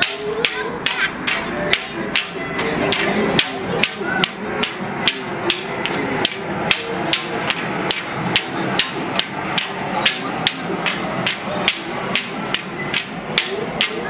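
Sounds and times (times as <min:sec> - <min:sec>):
wooden poles knocking and clapping: 0:00.0 - 0:14.0.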